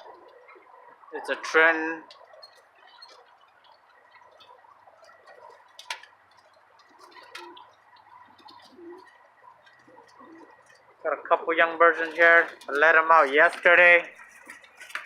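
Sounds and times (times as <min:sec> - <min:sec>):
birds clicking and tapping: 0:00.0 - 0:15.0
pigeons cooing: 0:00.0 - 0:15.0.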